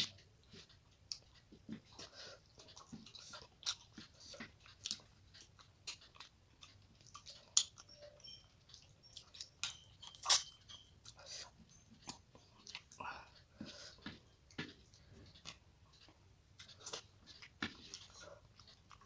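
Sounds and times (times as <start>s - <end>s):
person chewing with wet mouth noises: 0.0s - 19.0s.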